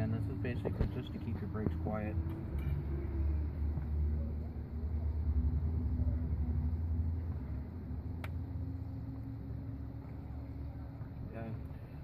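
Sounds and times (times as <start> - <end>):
faint hum: 0.0 - 12.0
low steady rumble: 0.0 - 12.0.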